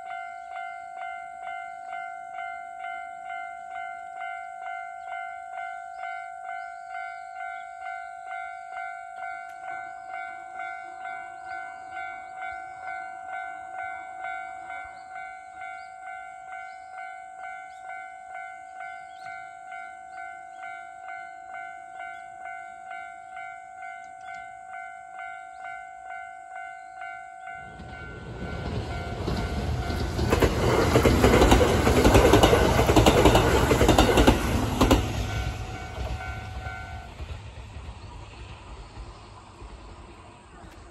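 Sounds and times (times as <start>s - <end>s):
level crossing warning bell: 0.0s - 37.4s
electric train rumbling: 0.0s - 40.9s.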